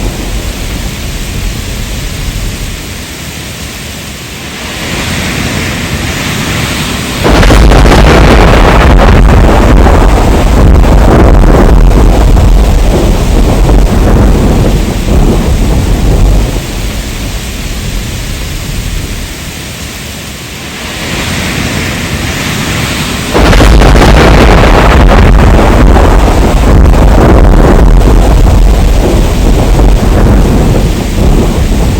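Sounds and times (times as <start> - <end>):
heavy rain: 0.0 - 31.9
thunder rumbling: 0.0 - 31.9.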